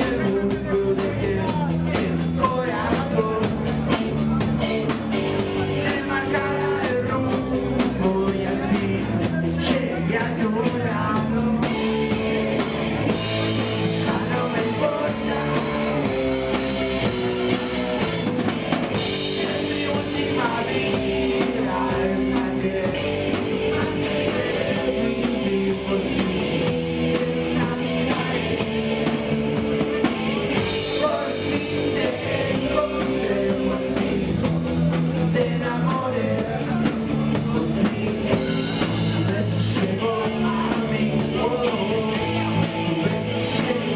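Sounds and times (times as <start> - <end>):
male singer vocals: 0.0 - 18.0, 18.9 - 43.9
drum kit: 0.0 - 43.9
strummed electric guitar: 0.0 - 43.9.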